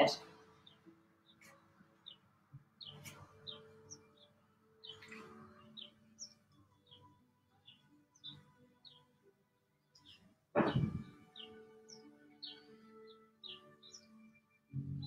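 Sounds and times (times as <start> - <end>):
bird chirping: 0.0 - 9.2, 9.8 - 15.0.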